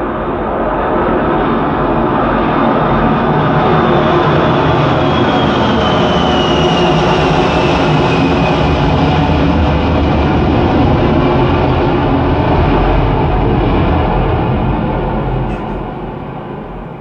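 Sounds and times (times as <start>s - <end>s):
high engine whine: 0.0s - 17.0s
jet engine roar: 0.0s - 17.0s.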